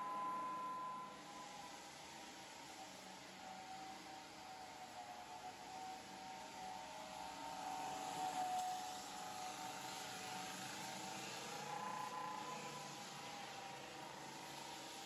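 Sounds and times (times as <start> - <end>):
floor sander motor whine: 0.0 - 15.0.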